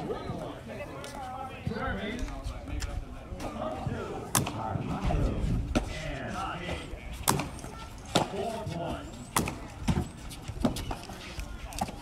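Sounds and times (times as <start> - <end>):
voices chattering: 0.0 - 12.0.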